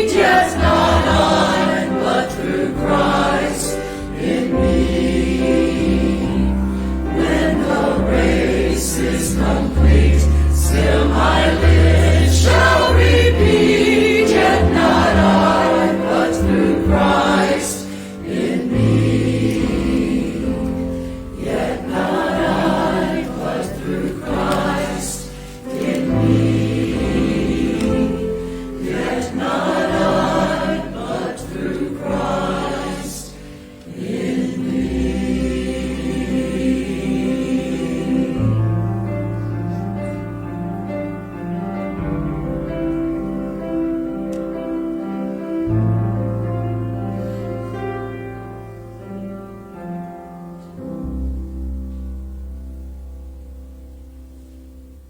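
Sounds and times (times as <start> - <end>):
choir singing a hymn: 0.0 - 49.2.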